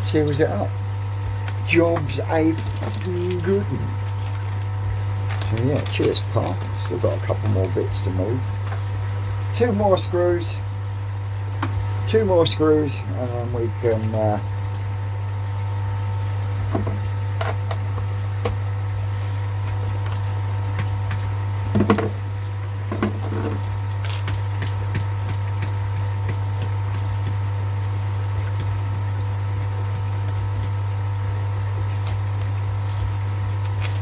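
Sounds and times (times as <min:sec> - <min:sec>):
pond pump electric hum: 0:00.0 - 0:34.0.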